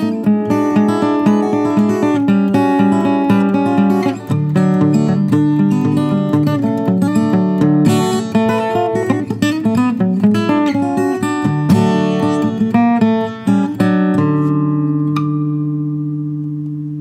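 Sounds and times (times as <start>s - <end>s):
fingerpicked acoustic guitar: 0.0s - 17.0s.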